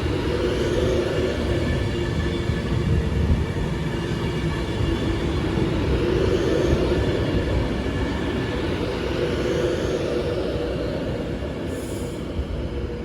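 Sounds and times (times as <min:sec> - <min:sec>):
train rumbling with humming tone: 0:00.0 - 0:13.0.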